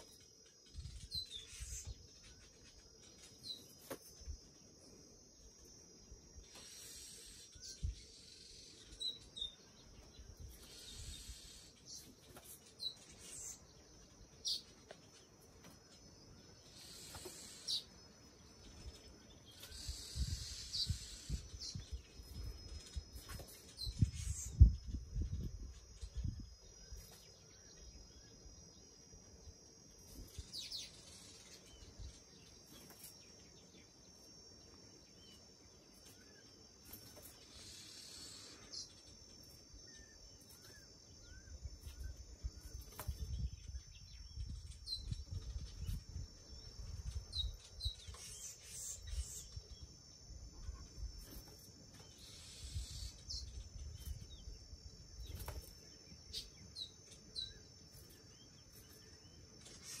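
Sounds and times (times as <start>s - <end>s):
insect drone: 0.0s - 60.0s.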